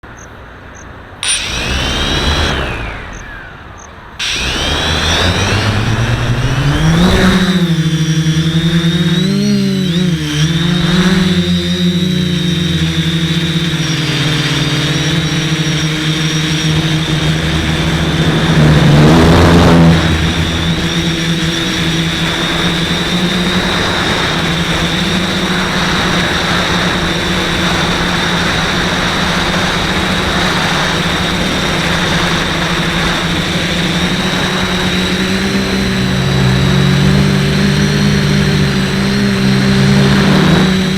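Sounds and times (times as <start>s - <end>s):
quadcopter motors buzzing: 1.2s - 40.9s.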